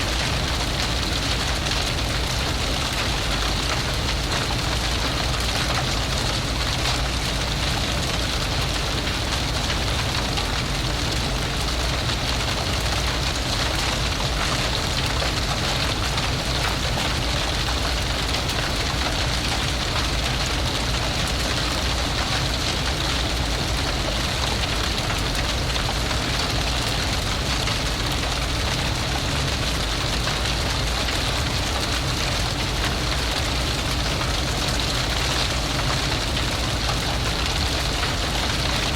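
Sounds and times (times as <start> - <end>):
fire blazing and crackling: 0.0 - 38.9.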